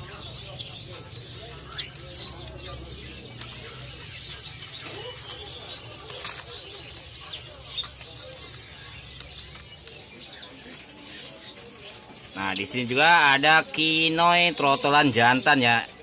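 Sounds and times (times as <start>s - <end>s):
songbirds chirping: 0.0s - 16.0s
steady background murmur: 0.0s - 16.0s.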